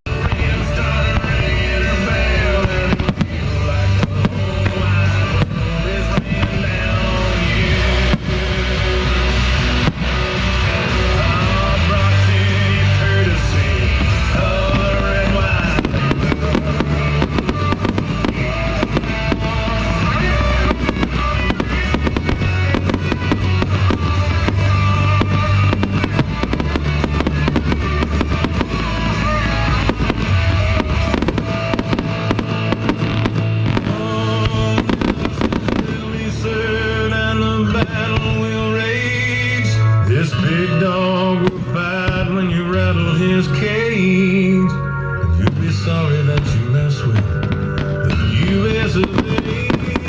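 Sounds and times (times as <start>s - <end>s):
fireworks bursting and crackling: 0.0s - 43.9s, 45.4s - 50.0s
loud rock music: 0.0s - 50.0s.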